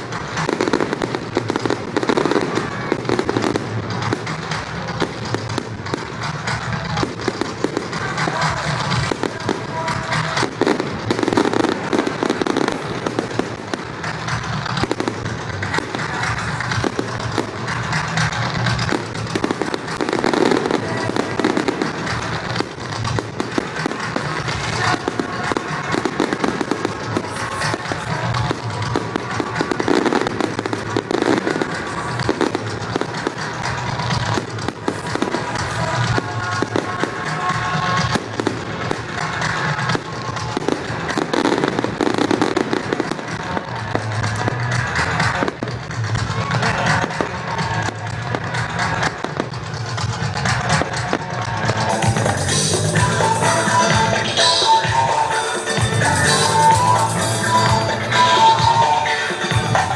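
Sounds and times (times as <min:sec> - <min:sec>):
fireworks bursting and crackling: 0:00.0 - 0:59.9
music playing: 0:00.0 - 0:59.9.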